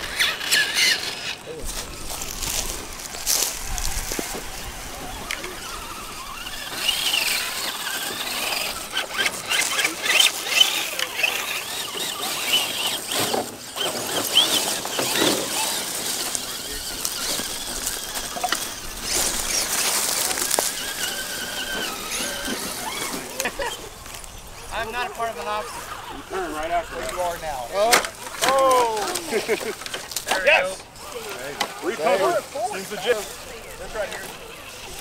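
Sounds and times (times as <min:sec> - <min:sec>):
dry grass and twigs crackling: 0:00.0 - 0:35.0
small electric motors whining: 0:00.0 - 0:35.0.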